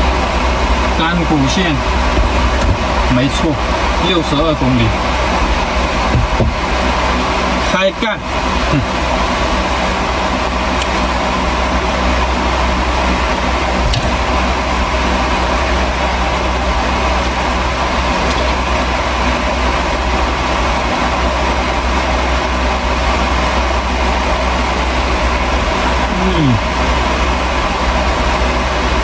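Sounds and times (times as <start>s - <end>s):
air conditioner humming: 0.0s - 29.0s
small fan running: 0.0s - 29.0s.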